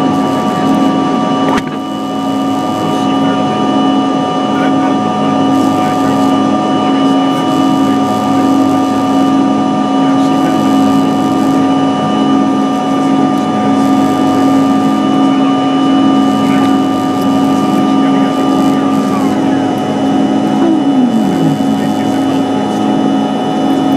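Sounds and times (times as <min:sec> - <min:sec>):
jet engines droning in cabin: 0:00.0 - 0:23.9.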